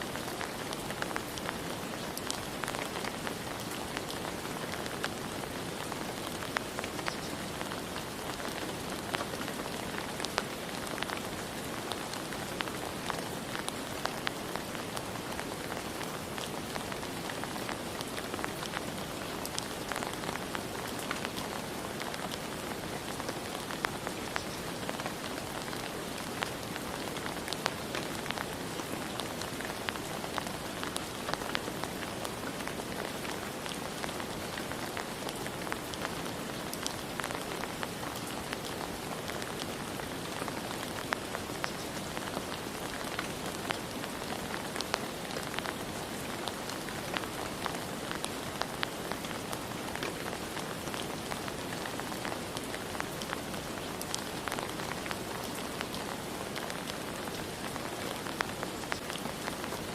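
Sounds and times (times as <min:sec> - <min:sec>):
steady rain falling: 0:00.0 - 0:59.9
raindrops ticking: 0:00.2 - 0:59.7.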